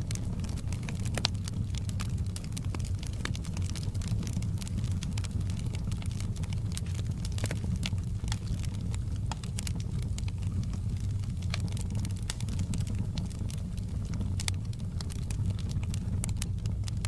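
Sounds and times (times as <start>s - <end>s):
fire crackling and popping: 0.0s - 17.0s
low rumble of burning: 0.0s - 17.0s.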